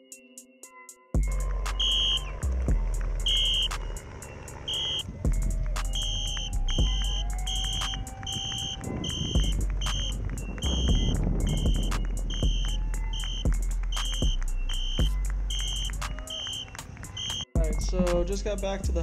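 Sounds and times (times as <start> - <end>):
deep bass: 1.2 - 4.0, 4.8 - 16.4, 17.6 - 19.0
electronic beat: 1.2 - 19.0.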